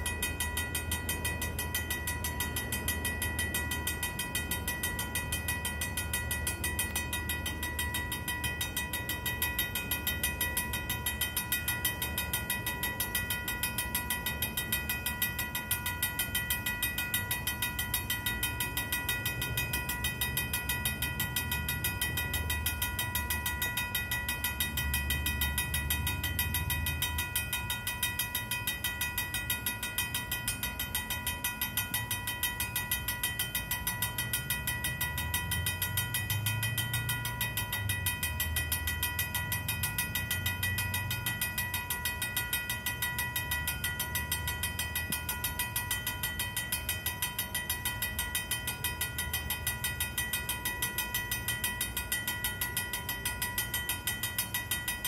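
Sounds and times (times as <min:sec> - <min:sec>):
railroad crossing bell ringing: 0:00.0 - 0:55.0.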